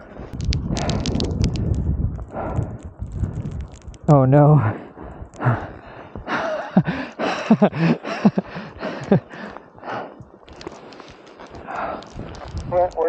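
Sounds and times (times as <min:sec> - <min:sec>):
person breathing hard and grunting: 0:00.0 - 0:03.6, 0:04.5 - 0:12.6.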